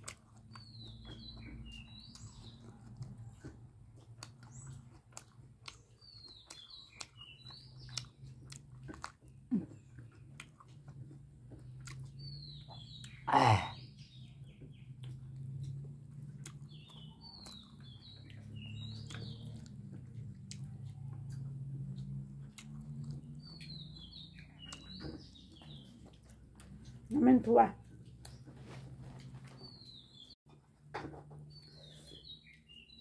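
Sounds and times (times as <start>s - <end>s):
chewing and mouth clicks: 0.0s - 13.3s, 14.0s - 27.2s, 27.8s - 30.0s
small birds chirping: 0.0s - 30.4s, 31.2s - 33.0s.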